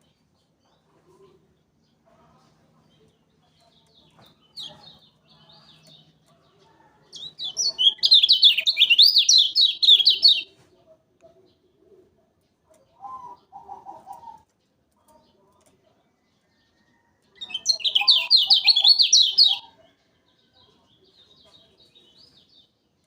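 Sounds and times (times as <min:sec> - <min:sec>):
songbird singing: 0:00.0 - 0:10.6, 0:11.2 - 0:23.0.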